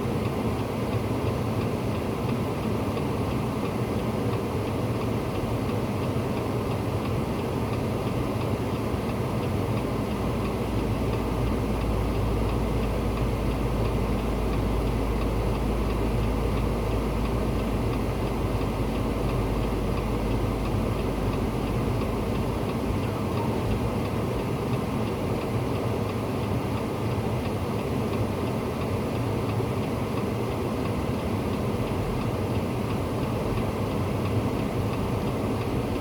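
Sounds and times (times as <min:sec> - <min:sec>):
engine running with low rumble: 0:00.0 - 0:36.0.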